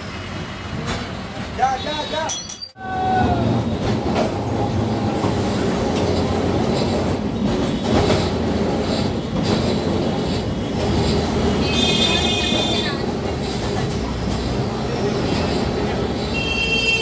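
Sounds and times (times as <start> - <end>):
tram wheels rumbling on rail: 0.0 - 17.0.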